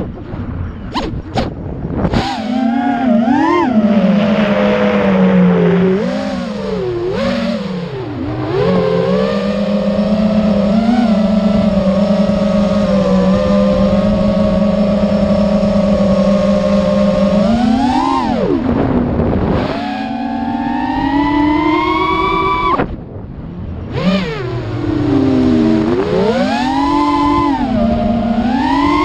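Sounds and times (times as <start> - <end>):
electric motor whining: 2.1 - 23.0, 23.9 - 29.0.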